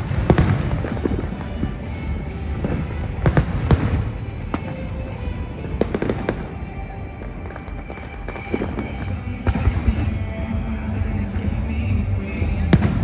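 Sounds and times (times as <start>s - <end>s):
fireworks bangs: 0.0s - 13.0s
rumble of distant explosions: 0.0s - 13.0s.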